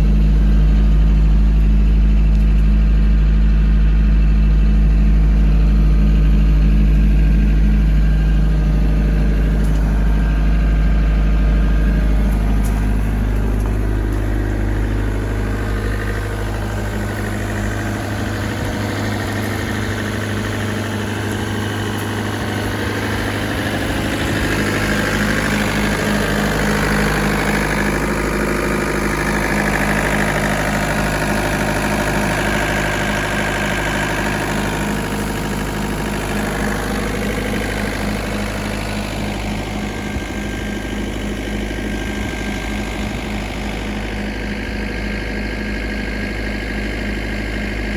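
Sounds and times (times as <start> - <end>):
excavator diesel engine idling: 0.0 - 47.9.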